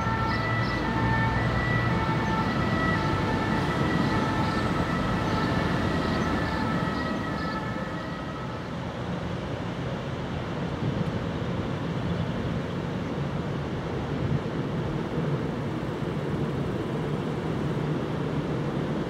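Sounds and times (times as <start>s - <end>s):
tram electric whine: 0.0s - 12.5s, 13.9s - 19.0s
tram rolling rumble: 0.0s - 19.0s.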